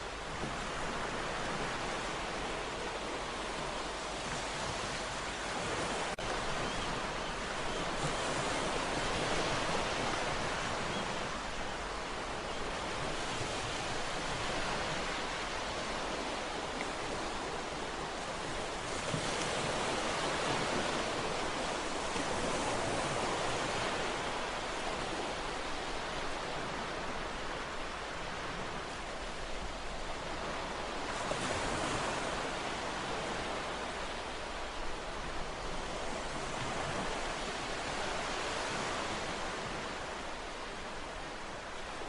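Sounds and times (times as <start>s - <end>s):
ocean waves breaking on shore: 0.0s - 42.0s.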